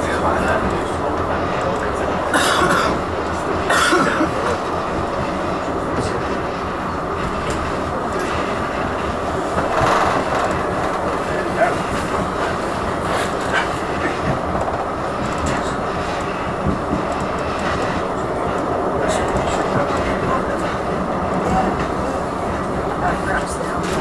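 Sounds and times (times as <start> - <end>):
tram wheels rattling on rails: 0.0 - 24.0.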